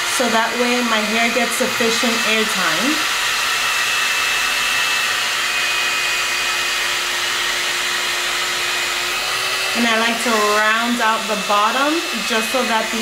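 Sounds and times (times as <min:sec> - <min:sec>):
hot-air brush whining and rushing: 0:00.0 - 0:13.0.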